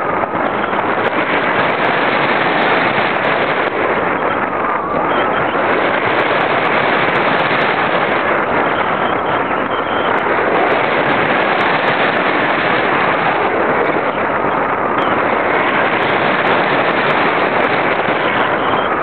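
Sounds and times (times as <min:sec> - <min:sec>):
crackling wind noise: 0:00.0 - 0:19.0.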